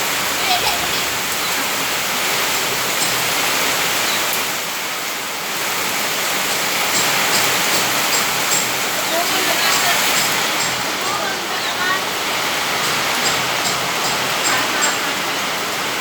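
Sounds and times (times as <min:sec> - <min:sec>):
heavy rain in strong wind: 0:00.0 - 0:16.0.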